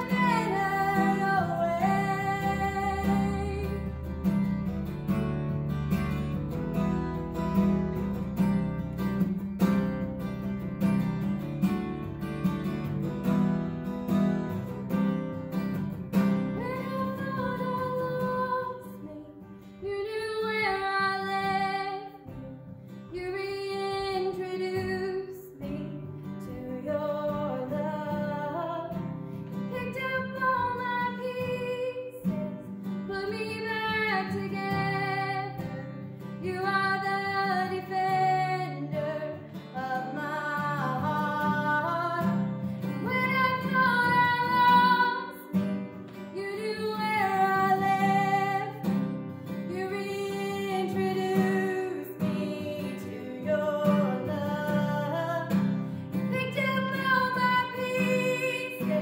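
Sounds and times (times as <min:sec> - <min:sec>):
woman singing: 0:00.0 - 0:04.7, 0:15.7 - 0:59.0
strummed acoustic guitar: 0:00.0 - 0:59.0.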